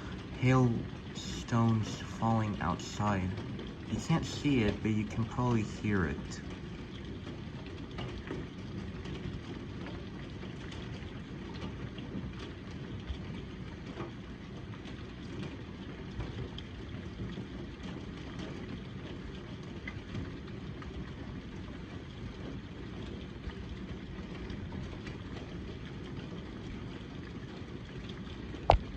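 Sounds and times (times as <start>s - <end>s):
hailstones ticking: 0.0s - 28.9s
rain: 0.0s - 28.9s.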